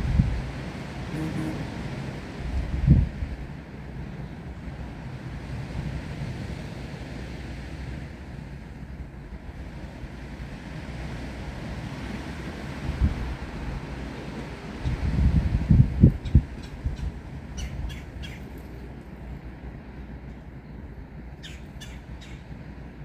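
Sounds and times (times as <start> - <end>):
wind buffeting the microphone: 0.0 - 21.3.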